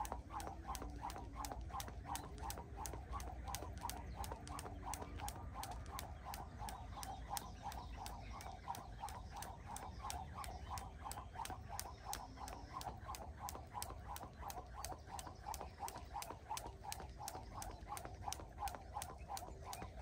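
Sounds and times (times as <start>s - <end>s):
skipping rope slapping ground: 0.0s - 20.0s.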